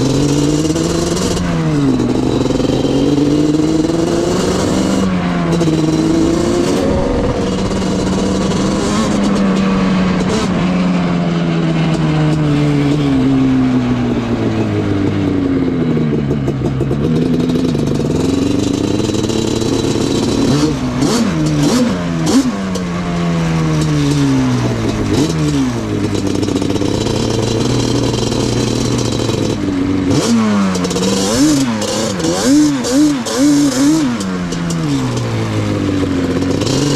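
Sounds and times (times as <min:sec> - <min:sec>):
two-stroke engine revving: 0:00.0 - 0:36.9.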